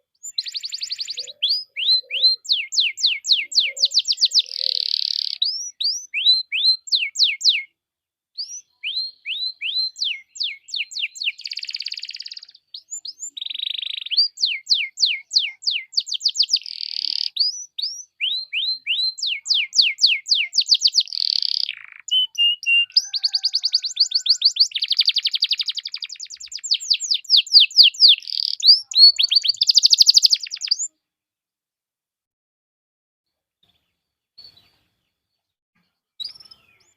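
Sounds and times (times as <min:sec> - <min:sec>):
canary singing: 0:00.0 - 0:07.7, 0:08.4 - 0:31.0.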